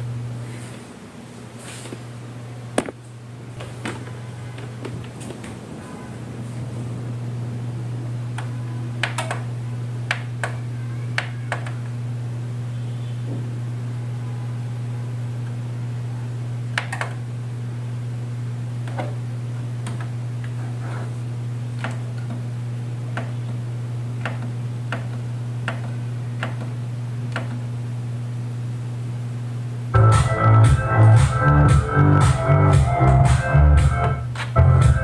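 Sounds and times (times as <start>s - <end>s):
deep bass hum from speaker: 0.0s - 35.0s.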